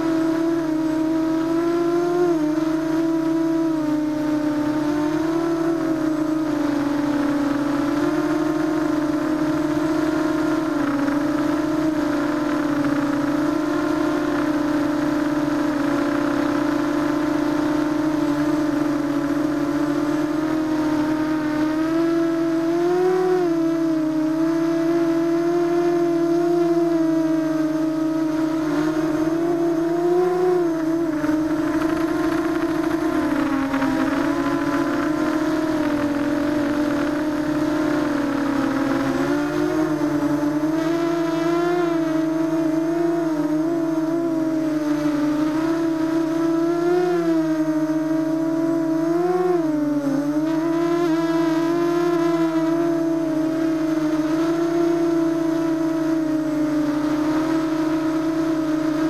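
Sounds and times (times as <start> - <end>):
drone motors whining: 0.0 - 59.0.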